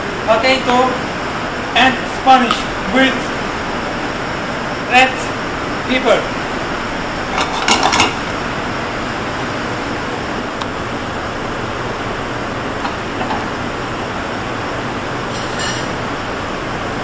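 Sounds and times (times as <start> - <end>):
gas burners rushing: 0.0 - 17.0.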